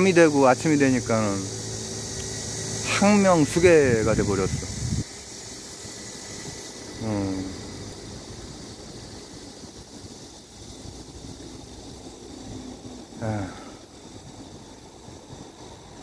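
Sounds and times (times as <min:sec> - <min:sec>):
roadside background noise: 0:00.0 - 0:16.0.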